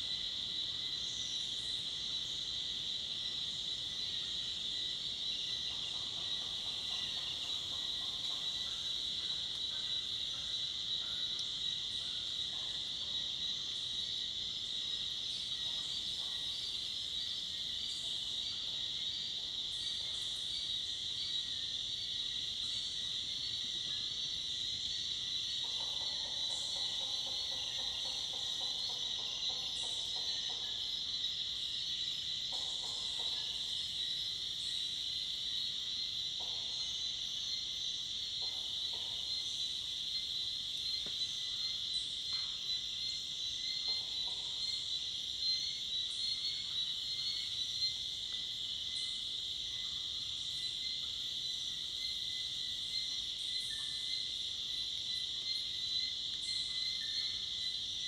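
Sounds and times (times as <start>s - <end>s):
crickets and cicadas chorus: 0.0s - 58.0s.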